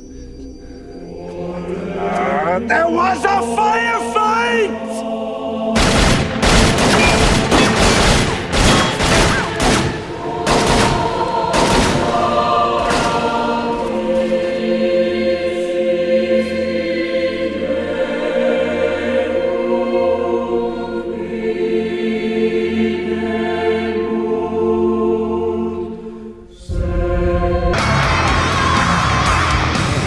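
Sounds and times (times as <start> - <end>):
choir singing held chords: 0.0 - 30.0.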